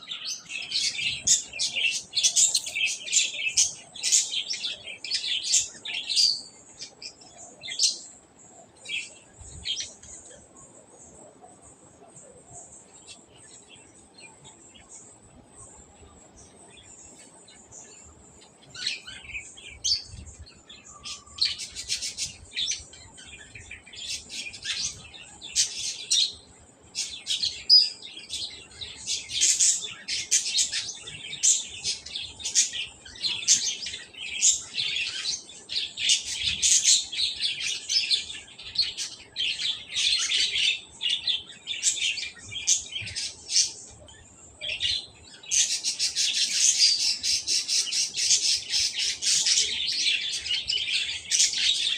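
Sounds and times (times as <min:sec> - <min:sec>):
small birds chirping and twittering: 0:00.0 - 0:51.9.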